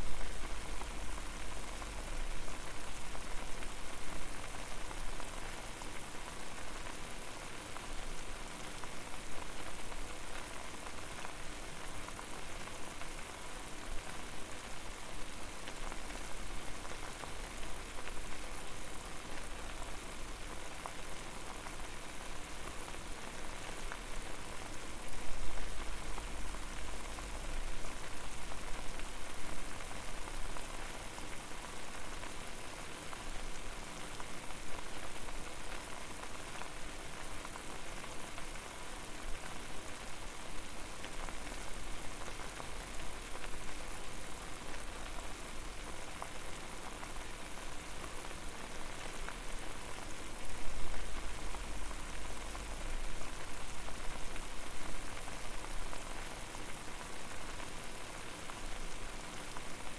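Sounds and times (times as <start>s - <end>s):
water boiling crackle: 0.0s - 59.9s.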